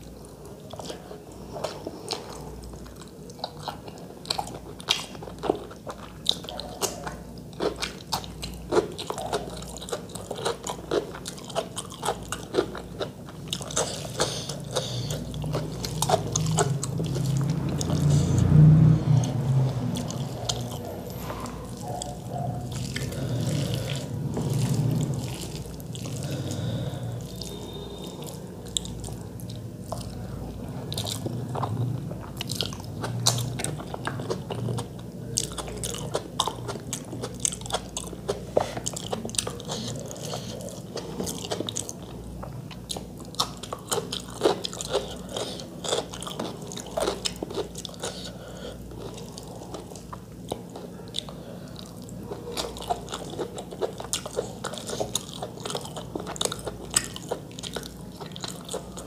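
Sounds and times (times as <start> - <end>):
chewing with wet clicks: 0.0 - 59.0
low steady hum: 0.0 - 59.0.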